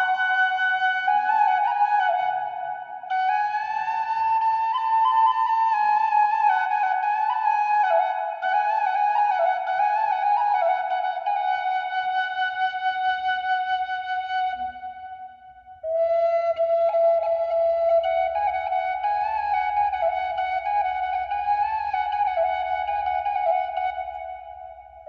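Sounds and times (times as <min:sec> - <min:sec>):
bamboo flute melody: 0:00.0 - 0:25.0.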